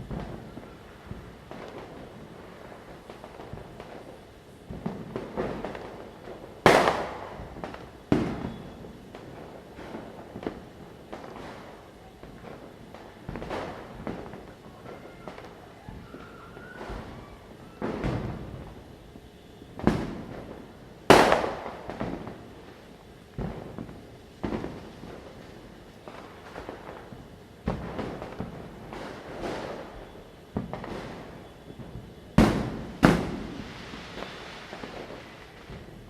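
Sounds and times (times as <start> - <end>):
firecrackers bursting: 0.0 - 36.0.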